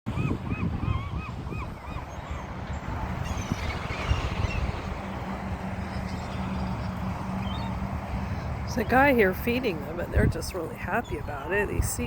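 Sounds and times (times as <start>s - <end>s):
seagulls calling: 0.1s - 12.0s
wind rumble on microphone: 0.1s - 12.0s.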